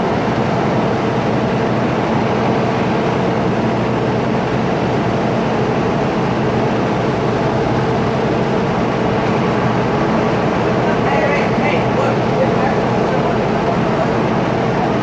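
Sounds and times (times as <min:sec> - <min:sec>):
large vehicle engine rumbling: 0:00.0 - 0:15.0.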